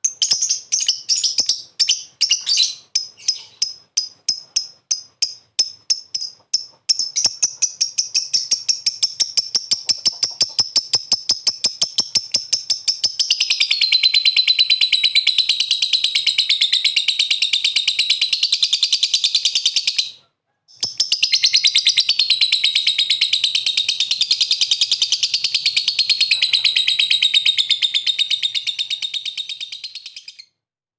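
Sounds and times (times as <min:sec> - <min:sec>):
bird chattering trill: 0:00.0 - 0:30.6.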